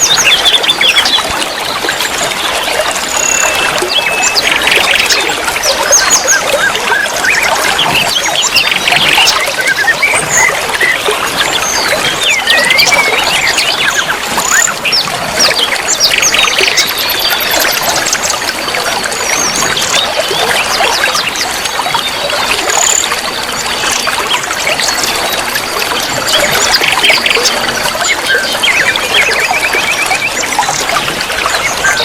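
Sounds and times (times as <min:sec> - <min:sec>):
trickling running water: 0:00.0 - 0:32.0.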